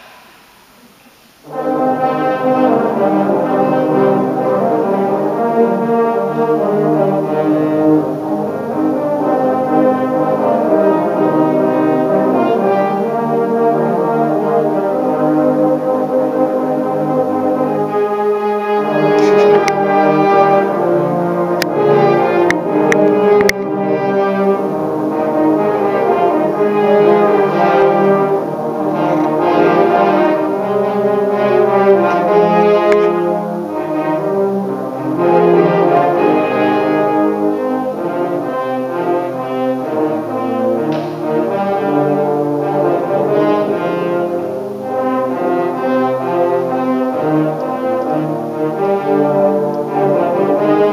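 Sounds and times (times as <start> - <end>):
brass ensemble playing: 0.0 - 50.9.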